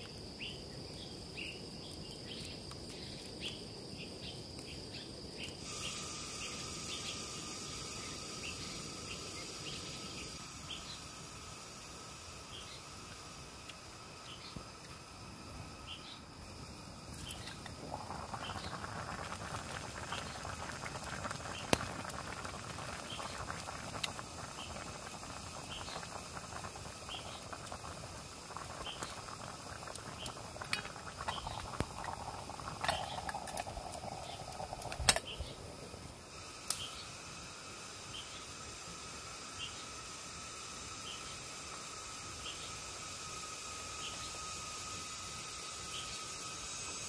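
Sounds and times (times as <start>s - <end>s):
campfire crackling: 0.0s - 47.0s
pot of water boiling: 0.0s - 47.0s.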